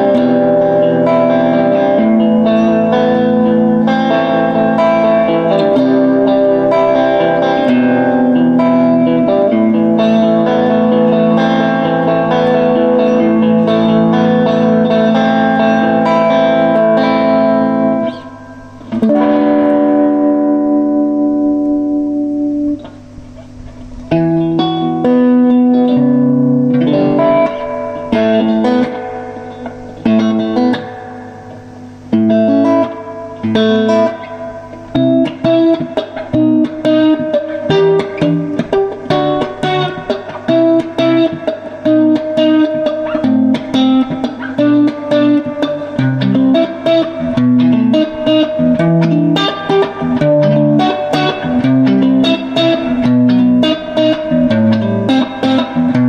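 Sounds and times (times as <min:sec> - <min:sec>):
electric guitar: 0:00.0 - 0:56.0.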